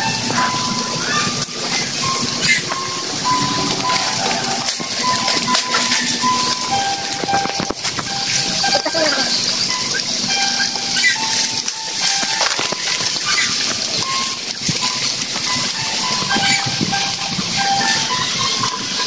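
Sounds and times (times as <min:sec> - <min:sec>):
music of short held notes: 0:00.0 - 0:19.0.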